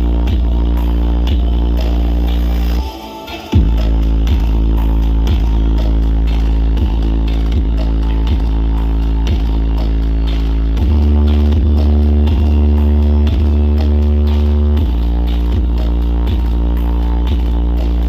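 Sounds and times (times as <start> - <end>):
electronic dance music with heavy bass: 0.0 - 18.0.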